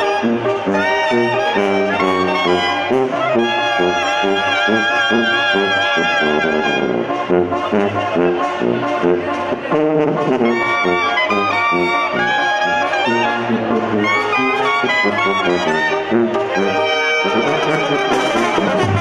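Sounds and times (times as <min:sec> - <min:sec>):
brass band: 0:00.0 - 0:19.0
clarinets playing melody: 0:00.0 - 0:19.0.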